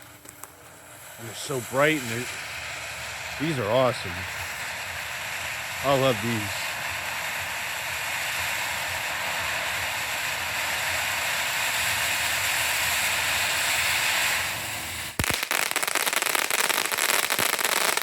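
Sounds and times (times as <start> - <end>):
firework crackle: 0.0 - 18.0
firework fountain hissing: 0.0 - 18.0
sharp firework pops: 0.0 - 18.0.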